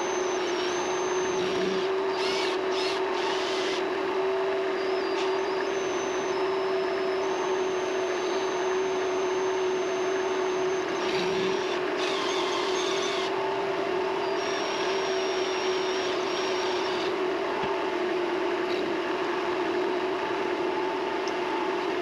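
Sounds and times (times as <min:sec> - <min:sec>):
lathe motor hum: 0:00.0 - 0:22.0.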